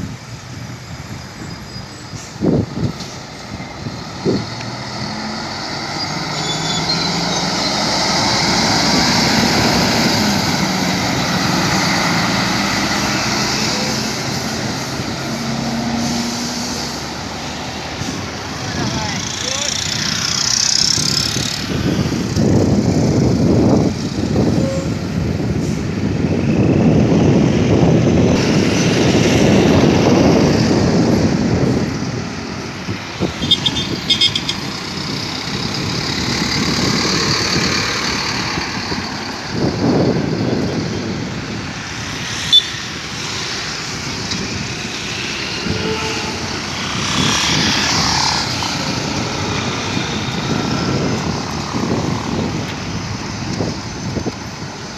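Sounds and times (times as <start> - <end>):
heavy trucks passing: 0.0 - 54.9.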